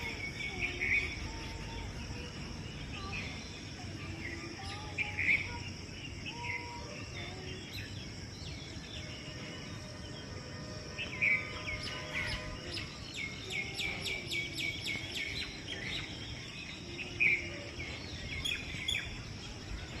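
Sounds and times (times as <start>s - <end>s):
birds calling: 0.0s - 20.0s
high insect drone: 0.0s - 20.0s.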